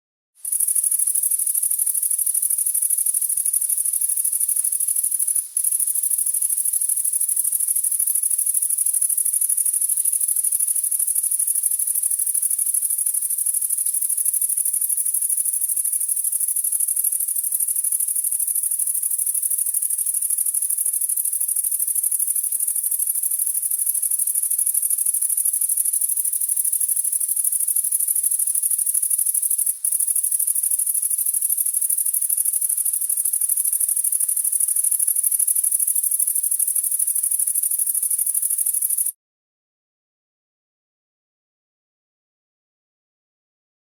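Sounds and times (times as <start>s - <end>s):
grasshopper chirping trill: 0.4s - 39.1s.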